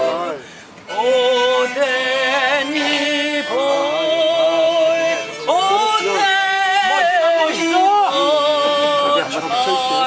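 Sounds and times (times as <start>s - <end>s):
person singing with vibrato: 0.0s - 10.0s.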